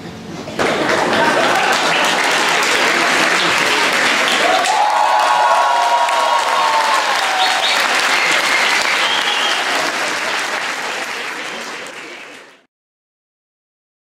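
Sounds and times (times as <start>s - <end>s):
audience applauding: 0.6s - 12.7s.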